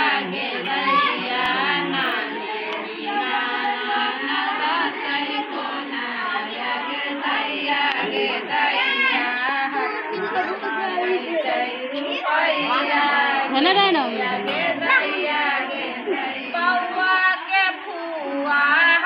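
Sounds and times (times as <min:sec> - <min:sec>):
women singing a devotional chant: 0:00.0 - 0:19.0.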